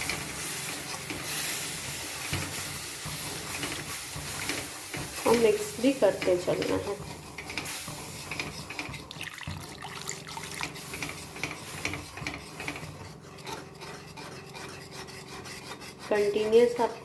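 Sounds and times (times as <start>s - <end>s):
whisk scraping in a pan: 0.0s - 17.0s.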